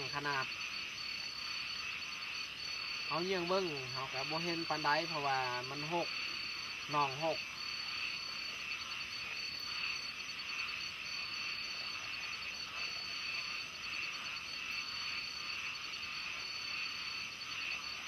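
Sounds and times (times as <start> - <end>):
chorus of frogs calling: 0.0 - 18.0.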